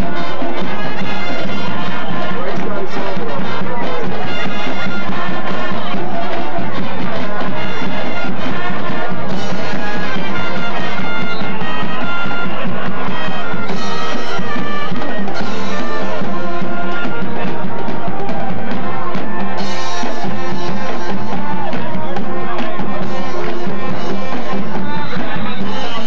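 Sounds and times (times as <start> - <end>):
music with a drum beat: 0.0 - 26.0.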